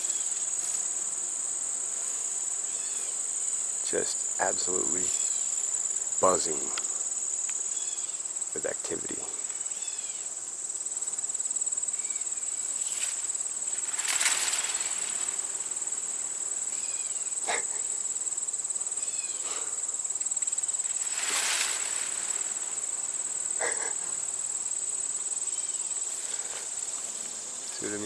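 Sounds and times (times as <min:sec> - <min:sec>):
crickets chirping chorus: 0:00.0 - 0:28.0.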